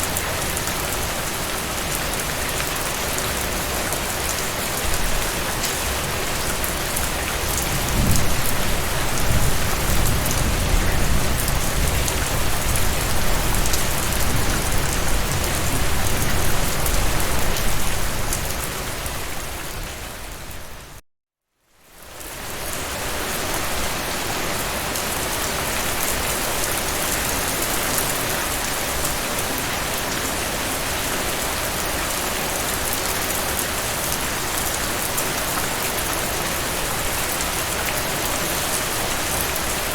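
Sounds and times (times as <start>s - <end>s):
heavy rain falling: 0.0s - 21.0s, 22.2s - 39.9s.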